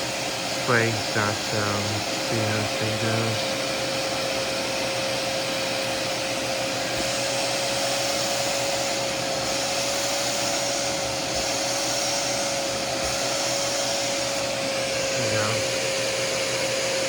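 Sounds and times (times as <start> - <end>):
carpet shampooer suction motor: 0.0 - 17.0
steady whining tone: 0.0 - 17.0.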